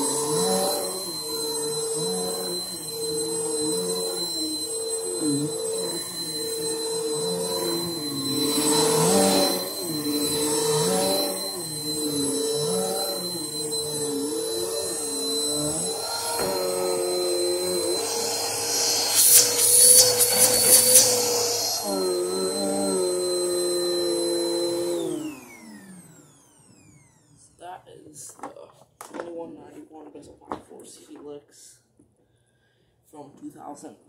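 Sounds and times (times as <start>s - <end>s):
vacuum cleaner motor whine: 0.0s - 27.4s.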